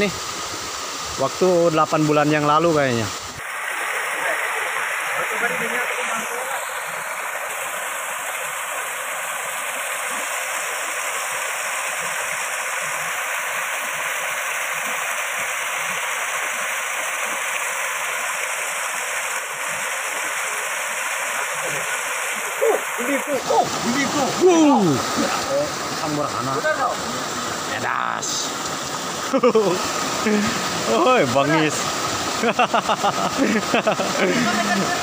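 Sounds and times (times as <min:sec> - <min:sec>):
waterfall into rocky stream: 0:00.0 - 0:35.0.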